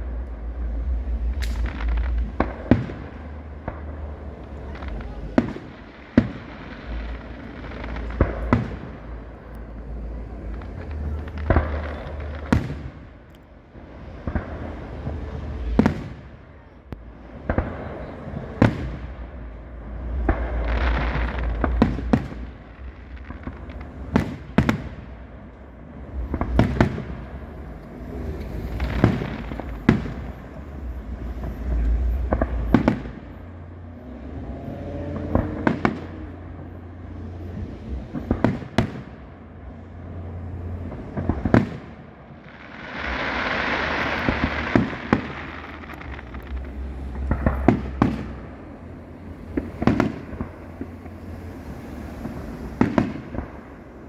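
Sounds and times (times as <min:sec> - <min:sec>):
firework shells booming: 0:00.0 - 0:54.0
hissing firework crackle: 0:00.0 - 0:54.0
low rumble: 0:00.0 - 0:54.0.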